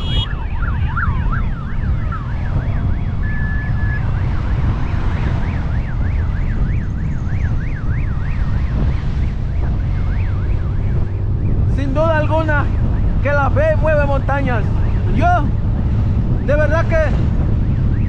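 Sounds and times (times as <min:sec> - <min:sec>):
siren wailing: 0:00.0 - 0:18.0
wind rumble on microphone: 0:00.0 - 0:18.0.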